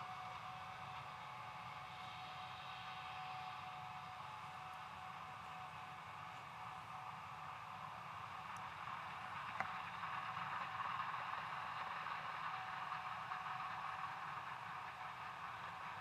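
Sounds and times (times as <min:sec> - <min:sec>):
combine harvester running: 0:00.0 - 0:16.0.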